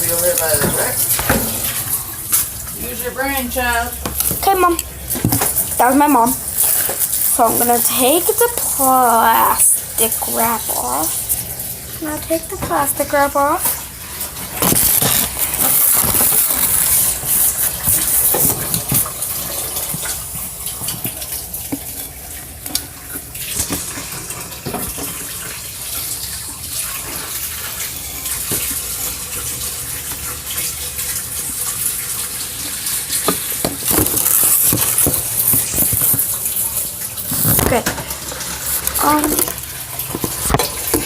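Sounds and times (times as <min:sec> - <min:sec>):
tap water running into sink: 0:00.0 - 0:41.0.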